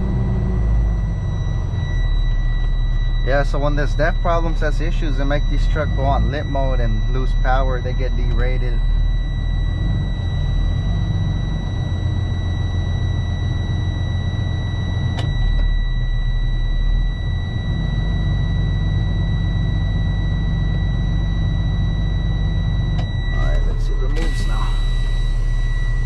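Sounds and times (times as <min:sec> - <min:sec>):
steady high-pitched tone: 0:00.0 - 0:26.0
truck diesel engine running: 0:00.0 - 0:26.0.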